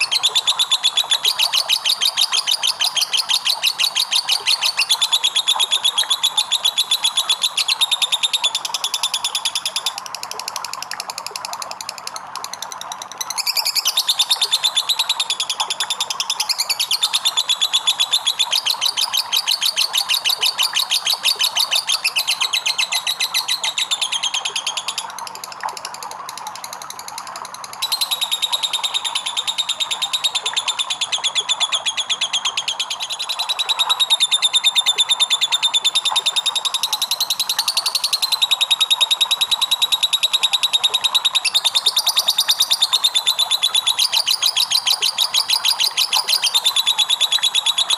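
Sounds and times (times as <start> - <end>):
bird high-pitched chattering trill: 0.0 - 10.0, 13.0 - 25.4, 27.8 - 47.9.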